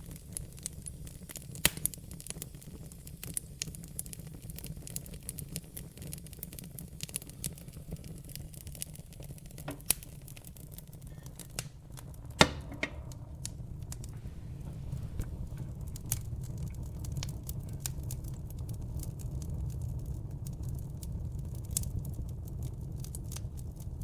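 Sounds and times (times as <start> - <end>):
fire popping and snapping: 0.0 - 24.0
low rumble of flame: 0.0 - 24.0.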